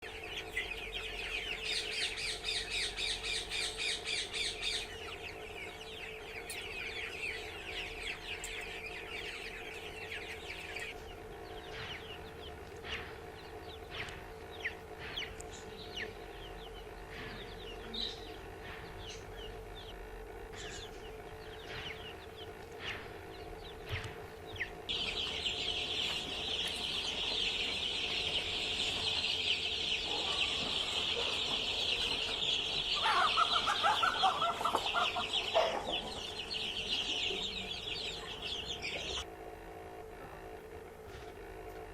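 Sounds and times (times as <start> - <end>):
chicks peeping: 0.0 - 39.3
steady low hum: 0.0 - 41.9.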